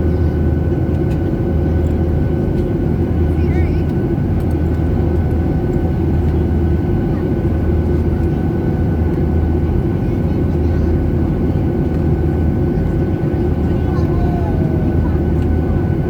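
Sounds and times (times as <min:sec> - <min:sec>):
jet engine and airflow rumble: 0:00.0 - 0:16.0.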